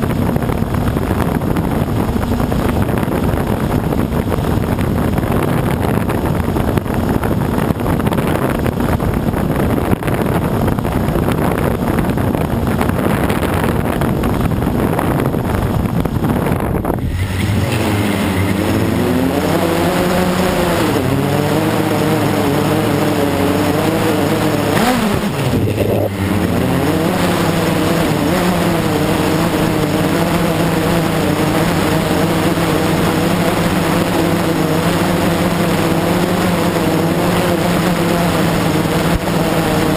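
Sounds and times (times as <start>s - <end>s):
quadcopter motors humming: 0.0s - 39.9s
wind noise on microphone: 0.0s - 39.9s.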